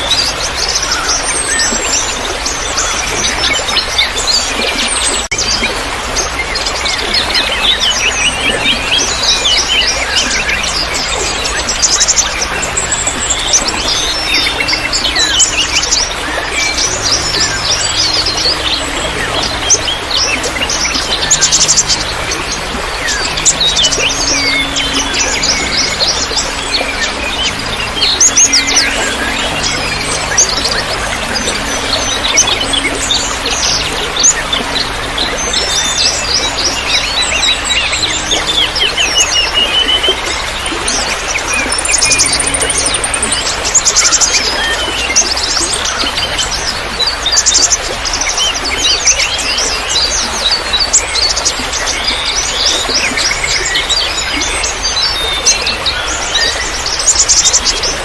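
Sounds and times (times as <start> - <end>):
running water trickling: 0.0 - 58.0
songbirds chirping: 0.0 - 58.0.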